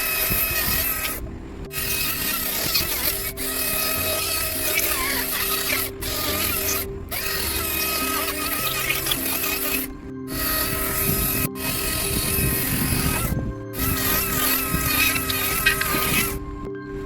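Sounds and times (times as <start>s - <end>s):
power tool cutting wood: 0.0s - 16.4s
background music: 0.0s - 17.0s.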